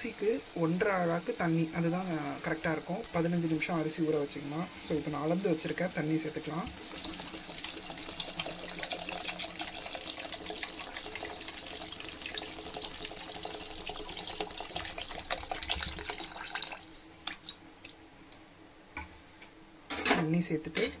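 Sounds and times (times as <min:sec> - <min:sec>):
water pouring into a pot: 0:00.2 - 0:18.0.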